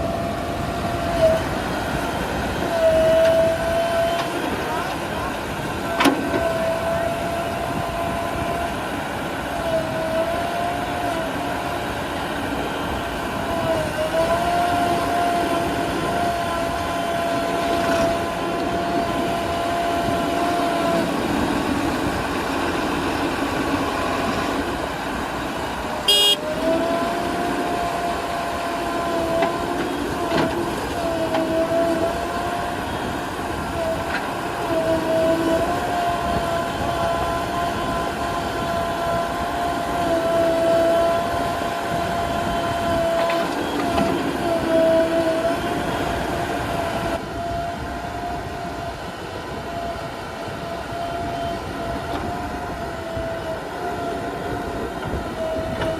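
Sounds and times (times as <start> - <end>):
diesel engine and hydraulics whine: 0.0 - 55.9.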